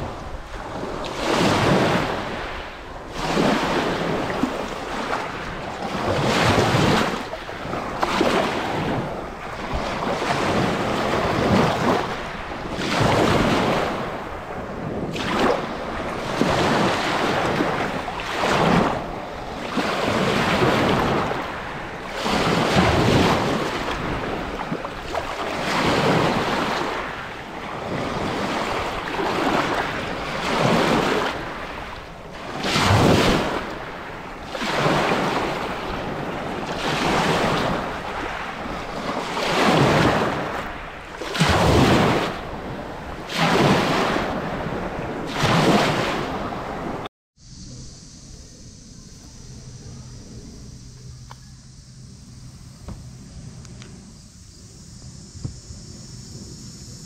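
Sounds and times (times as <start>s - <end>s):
waves breaking on a beach: 0.0s - 47.1s
wind: 0.0s - 57.0s.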